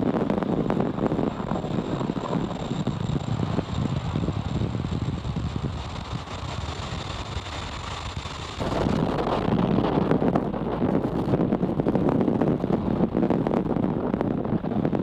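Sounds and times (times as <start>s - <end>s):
rocket engines rumbling: 0.0s - 15.0s.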